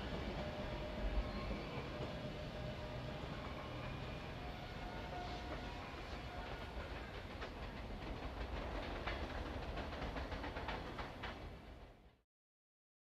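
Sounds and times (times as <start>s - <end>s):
freight train rumble: 0.0s - 12.2s.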